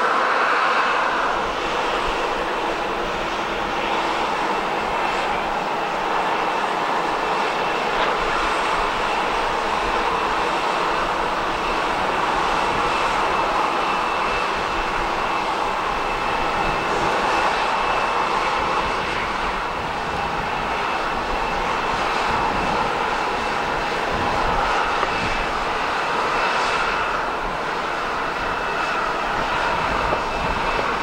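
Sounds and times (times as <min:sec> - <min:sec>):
jet airliner rush and fan whine: 0:00.0 - 0:31.0.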